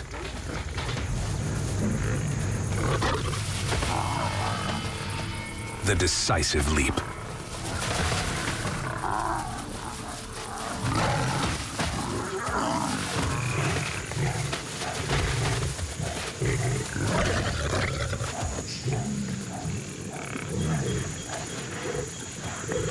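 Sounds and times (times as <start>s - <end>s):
lions growling: 0.0s - 5.1s, 7.0s - 22.9s.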